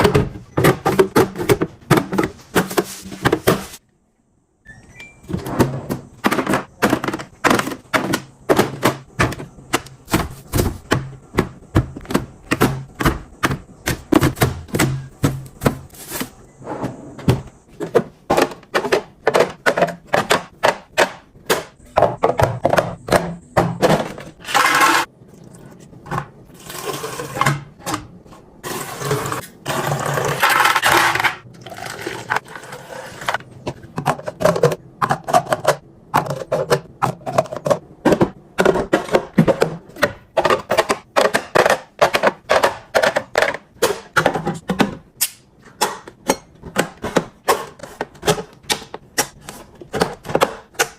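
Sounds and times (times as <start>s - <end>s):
food packages clicking and knocking: 0.0s - 3.8s, 5.4s - 16.4s, 17.2s - 25.1s, 29.8s - 31.5s, 32.2s - 50.9s.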